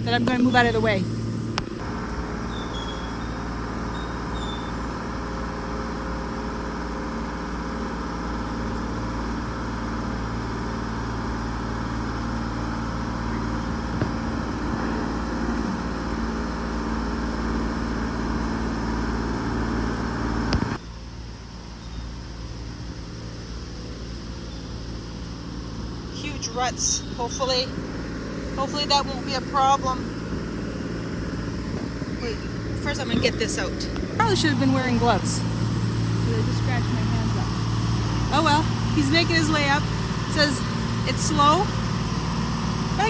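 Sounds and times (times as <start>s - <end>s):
excavator engine running: 0.0s - 43.0s.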